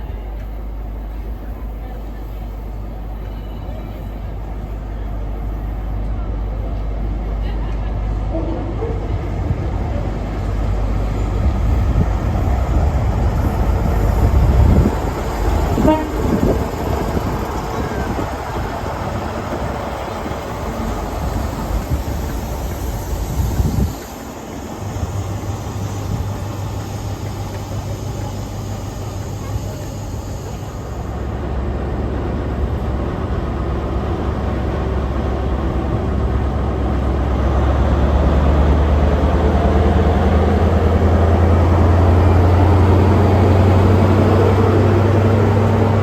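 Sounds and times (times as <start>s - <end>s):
diesel train engine humming: 0.0s - 46.0s.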